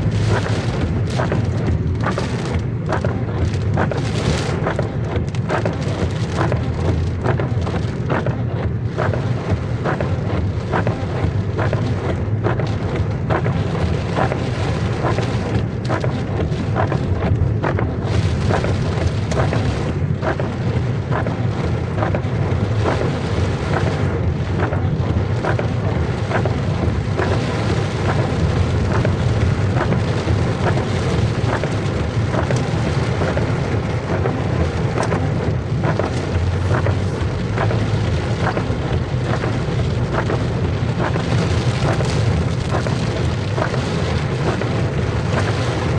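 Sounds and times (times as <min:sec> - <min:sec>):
heavy rain: 0:00.0 - 0:45.9
raindrop impacts: 0:00.0 - 0:45.9.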